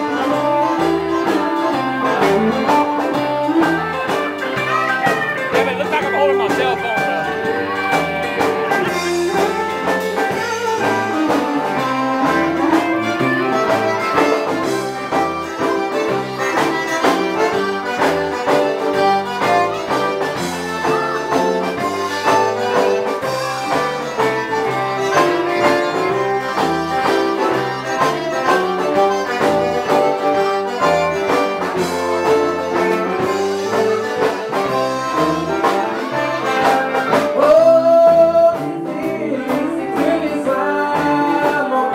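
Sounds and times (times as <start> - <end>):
band playing instrumental music: 0.0 - 41.9.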